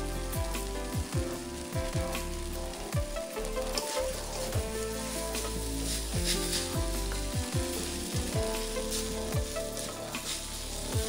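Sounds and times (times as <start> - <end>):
background music: 0.0 - 11.0
noodles sizzling in a wok: 0.0 - 11.0
wooden spatula stirring: 1.7 - 11.0.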